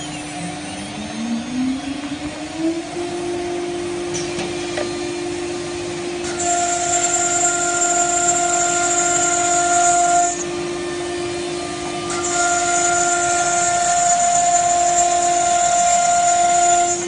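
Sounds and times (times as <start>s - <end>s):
higher whine: 0.0s - 17.0s
router spindle whining: 0.0s - 17.0s.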